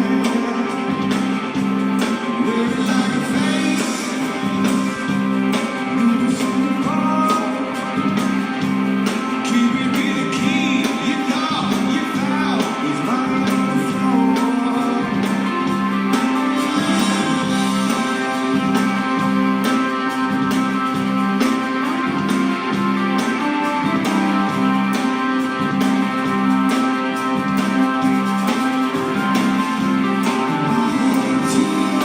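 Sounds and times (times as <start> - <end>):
rock band playing live: 0.0 - 32.0
strummed guitars: 0.0 - 32.0.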